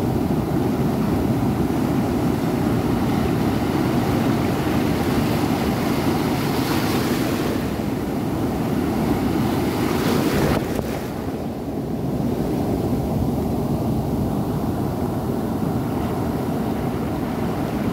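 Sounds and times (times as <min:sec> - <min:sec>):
ocean surf on rocky shore: 0:00.0 - 0:17.9.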